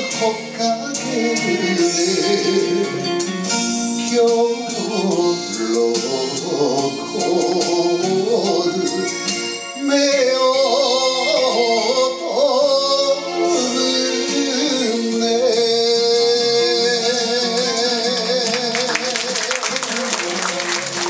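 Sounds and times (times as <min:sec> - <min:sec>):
man singing into a microphone: 0:00.0 - 0:19.7
backing track with steady beat: 0:00.0 - 0:21.0.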